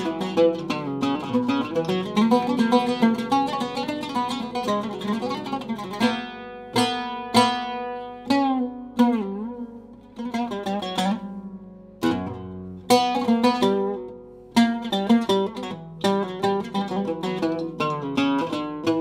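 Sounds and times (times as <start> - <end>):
solo oud playing: 0.0 - 19.0.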